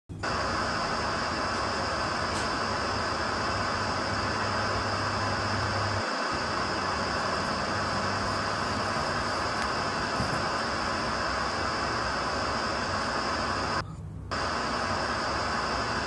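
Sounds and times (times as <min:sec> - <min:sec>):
white-noise hiss: 0:00.1 - 0:16.0.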